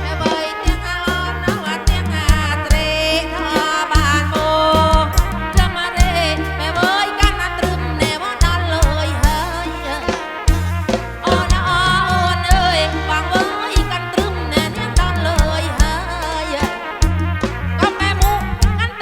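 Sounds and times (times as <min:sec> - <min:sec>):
folk music through a pa: 0:00.0 - 0:19.0.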